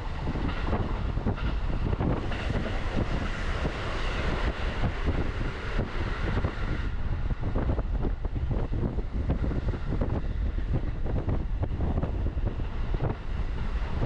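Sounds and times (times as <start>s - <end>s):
passing train rushing hiss: 0.0s - 14.0s
train rumble with wheel clatter: 0.0s - 14.0s.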